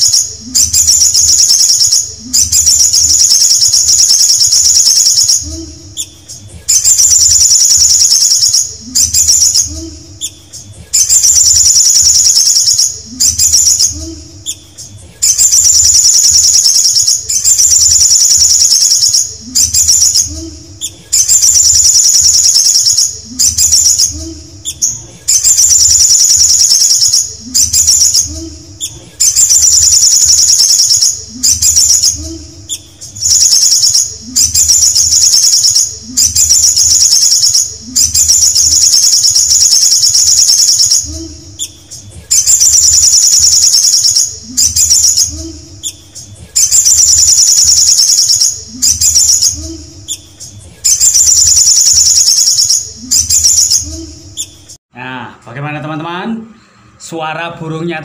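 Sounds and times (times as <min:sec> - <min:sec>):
sunbird singing trills: 0:00.0 - 0:54.6.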